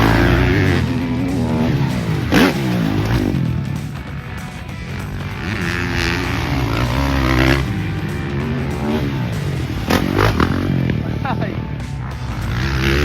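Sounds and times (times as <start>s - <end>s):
background music: 0.0s - 13.0s
dirt bike engine revving: 0.0s - 13.0s.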